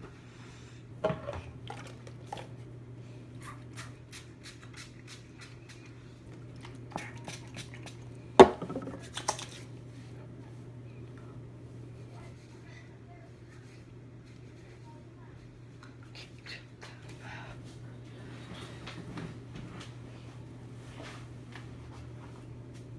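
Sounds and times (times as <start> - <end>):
ceiling fan humming: 0.0 - 22.9.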